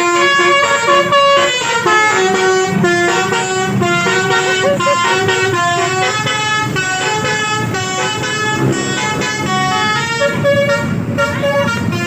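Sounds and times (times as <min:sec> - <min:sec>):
multi-tone bus horn playing tune: 0:00.0 - 0:12.0.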